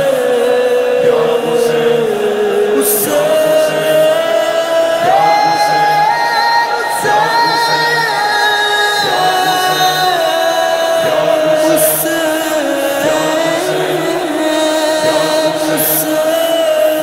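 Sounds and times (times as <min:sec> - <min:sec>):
men singing a cappella: 0:00.0 - 0:17.0.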